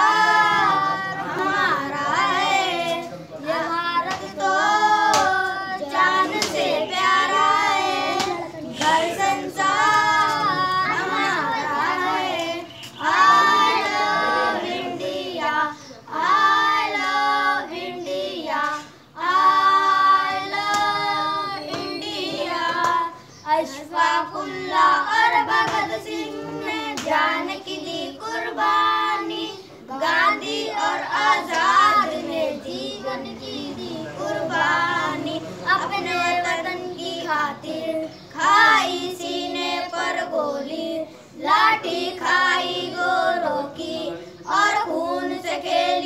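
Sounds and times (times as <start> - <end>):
boys singing together unaccompanied: 0.0 - 46.0.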